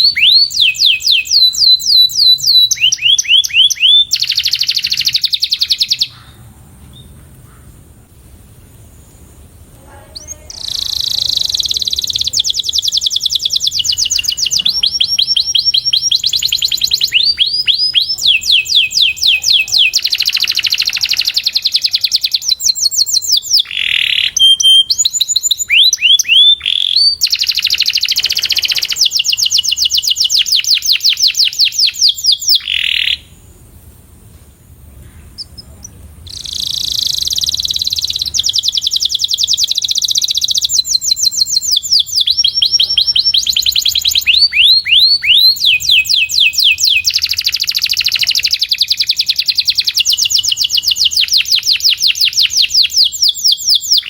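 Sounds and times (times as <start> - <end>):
canary singing trills: 0.0 - 7.8, 9.1 - 33.4, 35.0 - 54.0.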